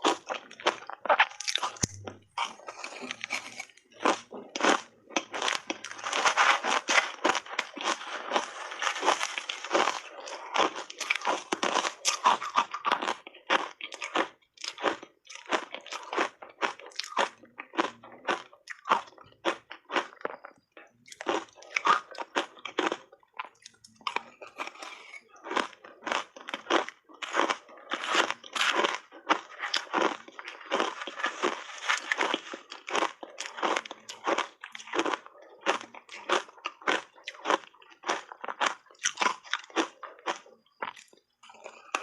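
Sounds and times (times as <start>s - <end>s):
shaved ice crunching while chewed: 0.0s - 20.5s, 21.2s - 42.0s.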